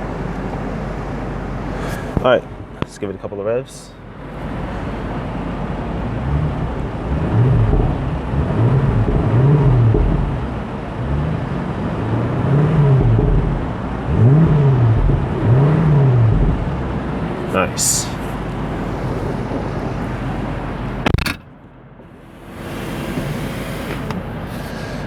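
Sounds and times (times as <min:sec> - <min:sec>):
car engine idling: 0:00.0 - 0:25.0
car engine revving: 0:04.0 - 0:25.0.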